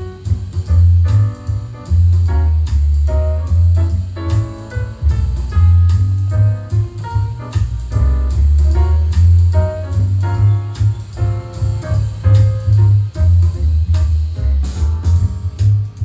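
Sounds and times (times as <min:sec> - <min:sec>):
instrumental music over speakers: 0:00.0 - 0:16.0.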